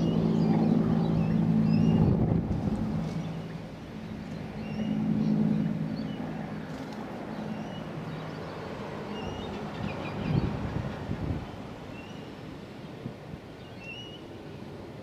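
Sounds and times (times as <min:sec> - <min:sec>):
helicopter rotor and turbine hum: 0:00.0 - 0:15.0.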